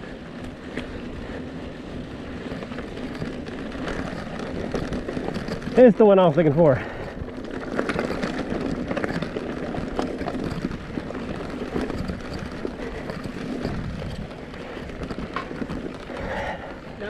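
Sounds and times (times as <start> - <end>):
bike rattling and knocking: 0.0 - 17.0
steady rumble: 0.0 - 17.0
tyres crunching on loose stones: 0.2 - 17.0.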